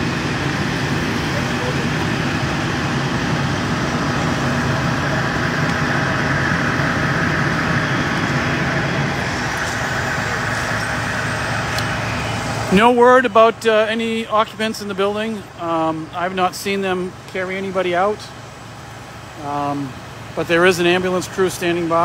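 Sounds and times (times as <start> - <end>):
fire truck engine running: 0.0 - 22.0.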